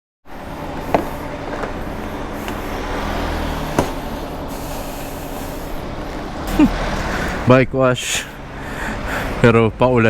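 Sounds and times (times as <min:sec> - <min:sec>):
vehicle engine humming: 0:00.2 - 0:10.0.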